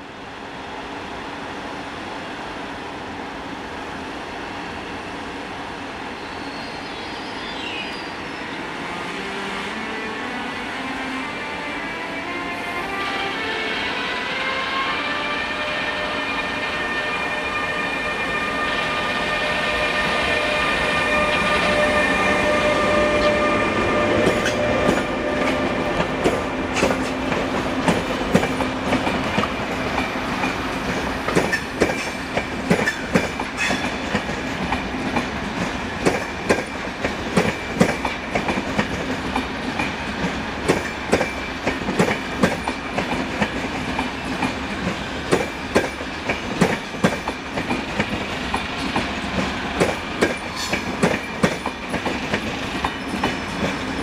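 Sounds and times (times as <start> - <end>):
train whine over rumble: 8.1 - 54.0.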